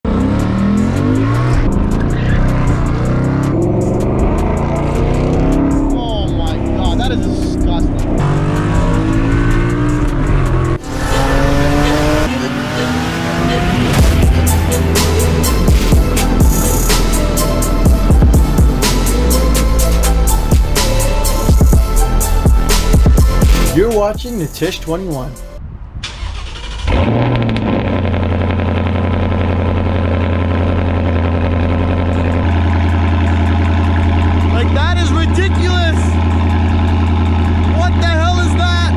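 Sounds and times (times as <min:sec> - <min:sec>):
car engine accelerating hard: 0:00.0 - 0:23.9, 0:26.2 - 0:38.9.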